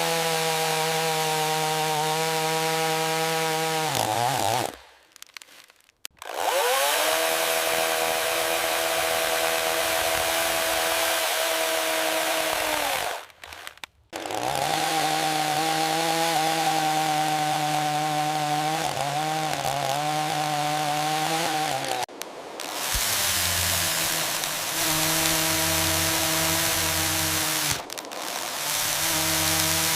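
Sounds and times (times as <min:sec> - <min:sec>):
small chainsaw cutting log: 0:00.0 - 0:29.9.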